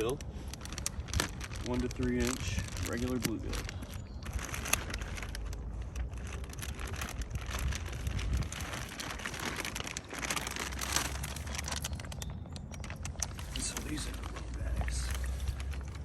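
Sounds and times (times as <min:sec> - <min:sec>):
crackles and rustles: 0:00.0 - 0:16.0
wind buffeting microphone: 0:00.0 - 0:16.0.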